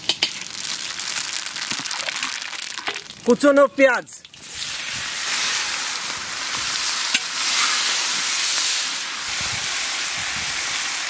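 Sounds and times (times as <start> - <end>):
onions sizzling in hot oil: 0.0 - 3.2, 4.3 - 11.0.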